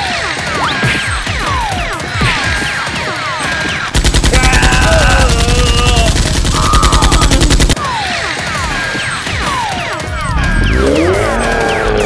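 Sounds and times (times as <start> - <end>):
rapid automatic gunfire: 1.3 - 11.0.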